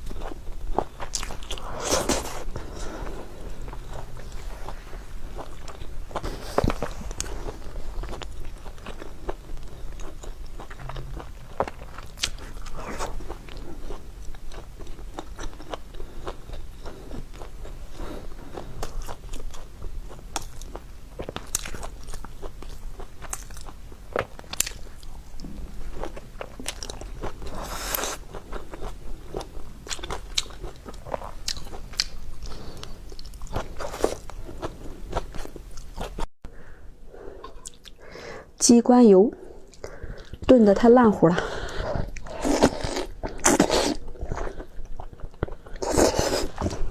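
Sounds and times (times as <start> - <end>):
person chewing crunchy food: 0.0 - 36.3, 37.2 - 38.1, 41.4 - 46.9.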